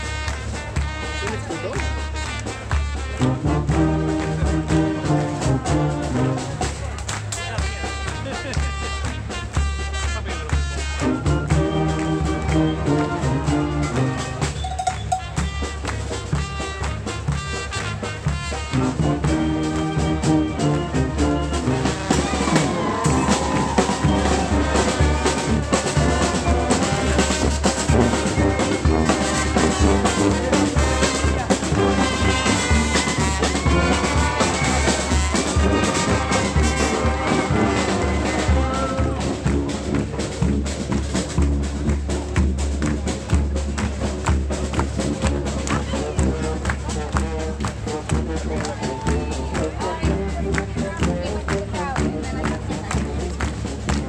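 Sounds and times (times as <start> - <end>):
brass band horns: 0.0 - 54.0
steady drums: 0.0 - 54.0.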